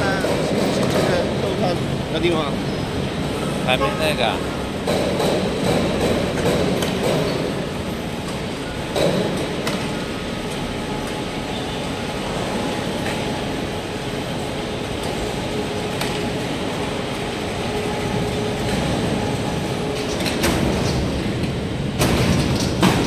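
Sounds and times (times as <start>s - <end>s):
mechanical rumble and hiss: 0.0s - 23.0s.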